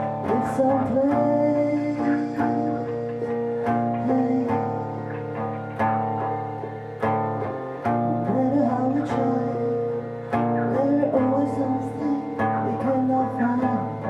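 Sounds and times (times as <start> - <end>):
guitar chords strummed: 0.0 - 14.0
wavering guitar melody: 0.0 - 14.0.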